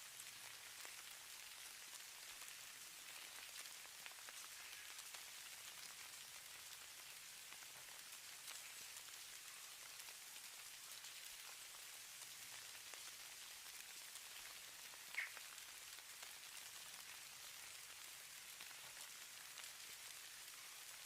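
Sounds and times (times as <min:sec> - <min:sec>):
hiss of falling snow: 0:00.0 - 0:21.0.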